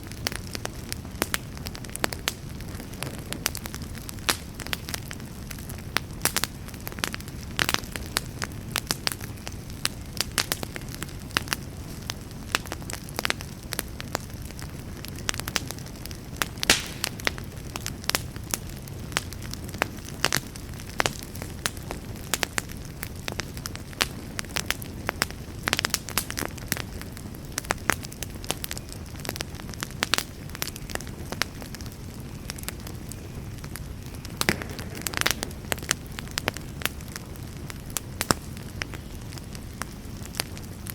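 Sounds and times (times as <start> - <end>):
fire crackling and popping: 0.0 - 40.9
fire rumbling: 0.0 - 40.9.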